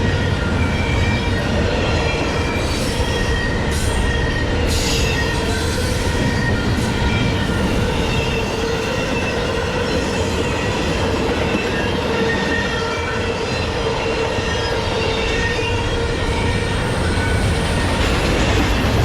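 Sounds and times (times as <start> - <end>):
freight train rumbling past: 0.0 - 19.0
train wheels squealing: 0.0 - 19.0.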